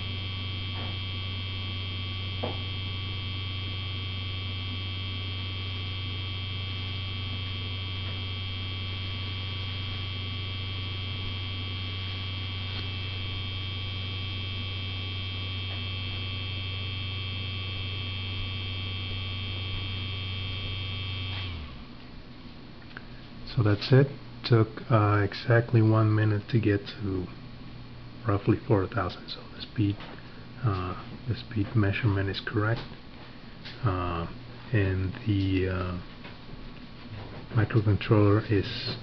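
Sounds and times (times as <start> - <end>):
spindle motor humming and whining: 0.0 - 39.0.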